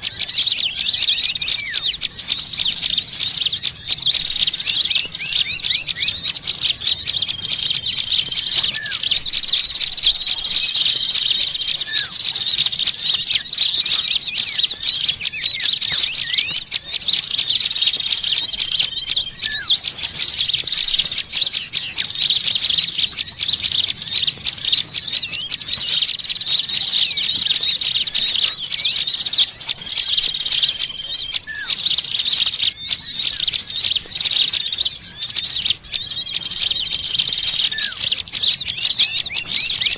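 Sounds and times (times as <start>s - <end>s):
short rising bird calls: 0.0s - 39.9s
small birds chirping and twittering: 0.0s - 39.9s.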